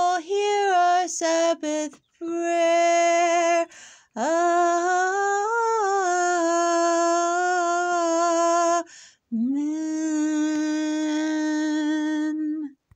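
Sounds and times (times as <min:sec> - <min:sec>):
woman singing unaccompanied: 0:00.0 - 0:12.9.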